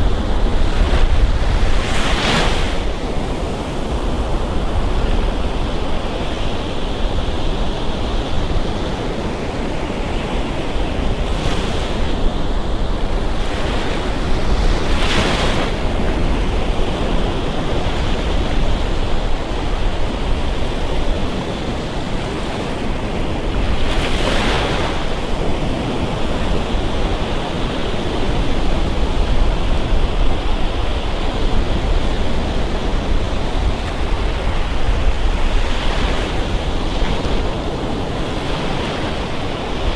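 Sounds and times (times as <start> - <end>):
waves breaking on a beach: 0.0 - 39.9
wind rumbling on microphone: 0.0 - 39.9.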